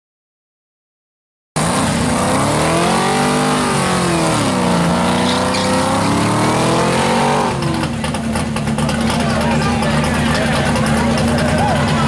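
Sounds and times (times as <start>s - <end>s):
drag car engine revving: 1.6s - 12.0s.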